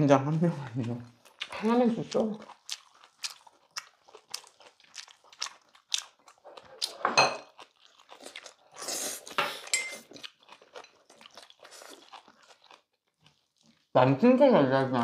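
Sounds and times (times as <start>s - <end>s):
crunching and chewing: 0.4s - 13.9s.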